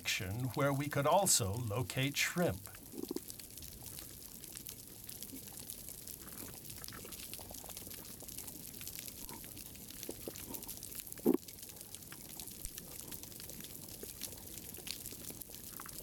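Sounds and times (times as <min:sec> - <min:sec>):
snapping shrimp crackle underwater: 0:00.0 - 0:16.0.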